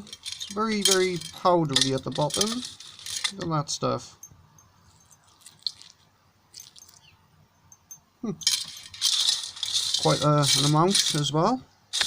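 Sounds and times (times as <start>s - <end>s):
metal pieces clinking and rattling: 0.0s - 3.5s, 4.9s - 7.0s, 7.7s - 12.0s.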